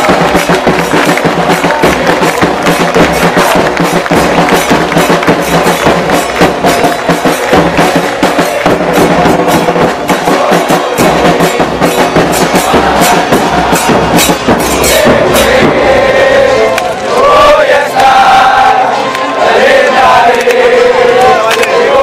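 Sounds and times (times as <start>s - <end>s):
loud drum-driven music: 0.0s - 22.0s.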